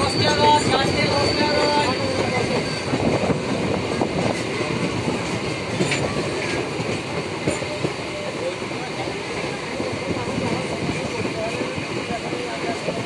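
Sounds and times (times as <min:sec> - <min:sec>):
rail joint clicks: 0:00.0 - 0:13.0
train wheels rumbling on rails: 0:00.0 - 0:13.0.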